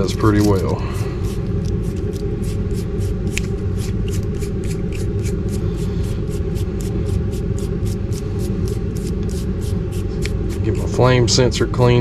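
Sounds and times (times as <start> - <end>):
rhythmic scraping strokes: 0.0 - 12.0.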